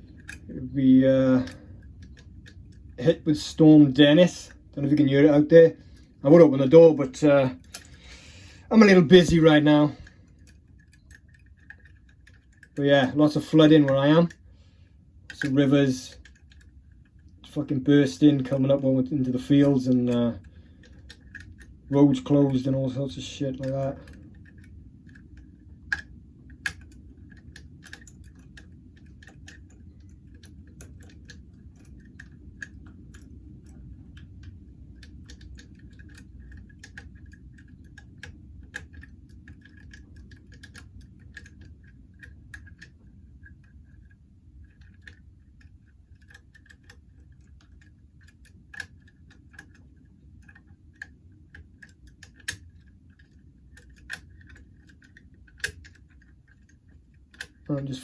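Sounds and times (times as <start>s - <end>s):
lock pick metallic clicks: 0.0s - 0.5s, 9.0s - 14.4s, 15.3s - 58.0s
faint low rumble: 0.0s - 58.0s.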